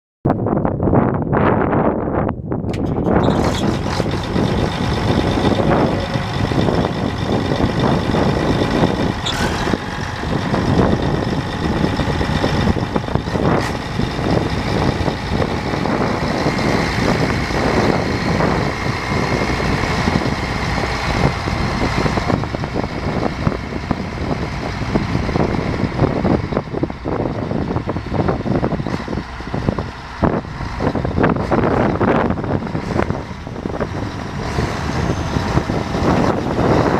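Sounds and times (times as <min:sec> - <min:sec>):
tractor diesel engine running: 0:02.6 - 0:36.9.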